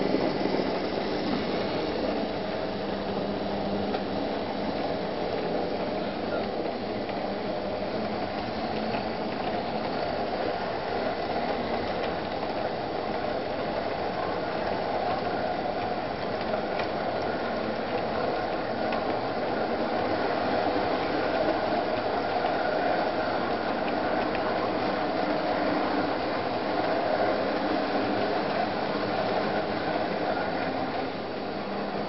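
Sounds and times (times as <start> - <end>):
model train whirring rattle: 0.0 - 32.0.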